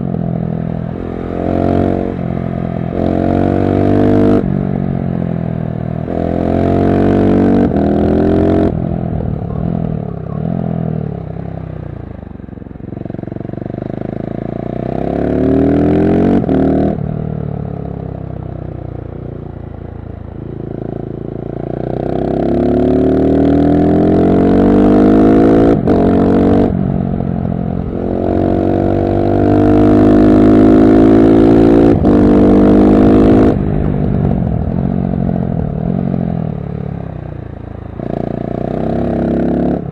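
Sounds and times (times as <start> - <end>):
motorcycle engine revving: 0.0 - 5.2, 6.0 - 12.0, 12.8 - 17.2, 20.4 - 39.9.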